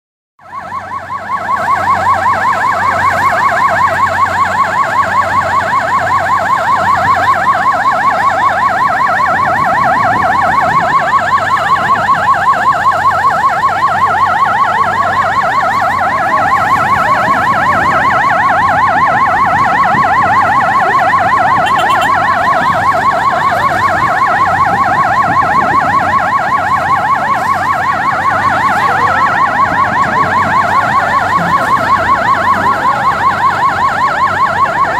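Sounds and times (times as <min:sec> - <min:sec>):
siren yelping: 0:00.4 - 0:34.9.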